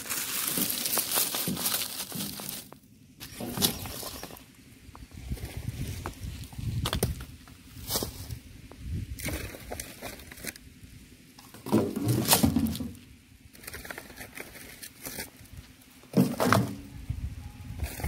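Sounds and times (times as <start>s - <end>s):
dry husks and fronds rustling: 0.0s - 18.0s.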